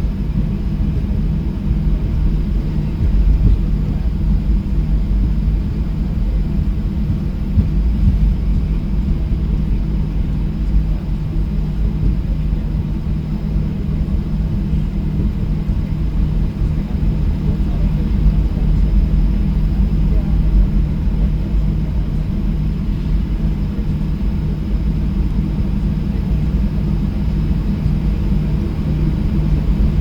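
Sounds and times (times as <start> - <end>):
jet engine rumble in cabin: 0.0 - 30.0.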